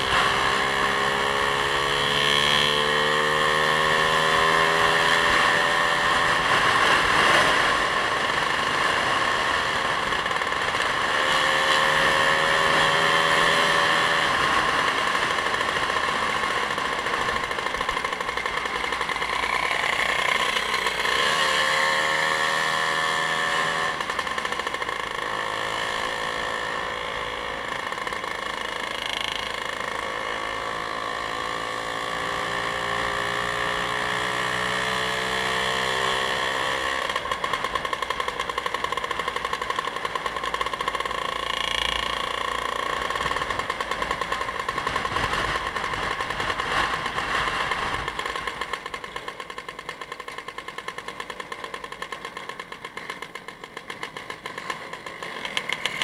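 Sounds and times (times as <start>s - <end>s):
motorcycle engine accelerating: 0.0s - 56.0s
wind and road noise: 0.0s - 56.0s.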